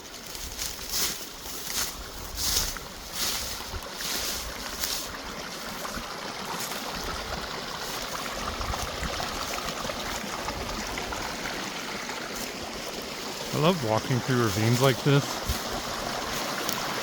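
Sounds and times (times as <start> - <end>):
creek water running: 0.0 - 17.0.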